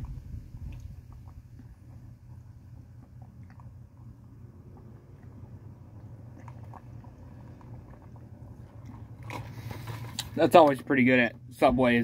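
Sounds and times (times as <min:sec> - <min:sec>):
person sipping through a straw: 0:00.0 - 0:10.4
steady low hum: 0:00.0 - 0:12.0.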